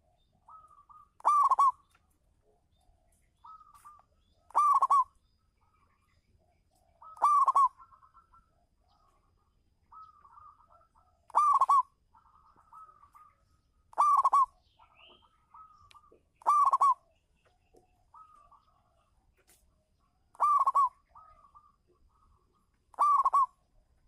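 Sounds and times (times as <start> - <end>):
dove cooing: 0.0 - 1.9, 3.4 - 5.1, 6.7 - 19.5, 20.1 - 23.7.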